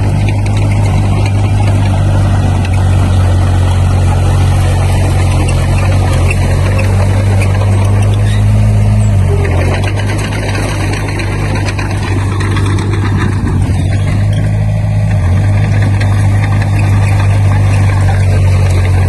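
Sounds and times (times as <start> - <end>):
continuous clattering: 0.0 - 19.0
heavy diesel engine humming: 0.0 - 19.0.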